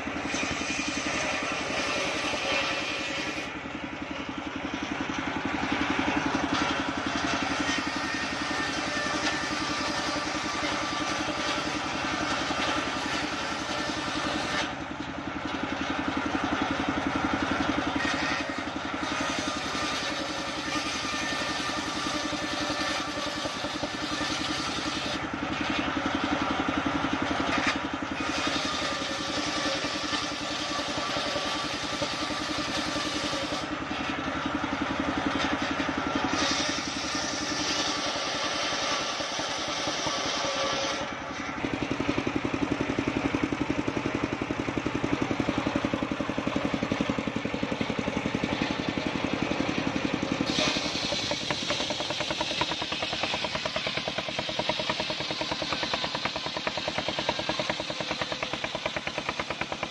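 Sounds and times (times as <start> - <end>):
circular saw ripping log: 0.0 - 59.9
steady engine drone: 0.0 - 59.9.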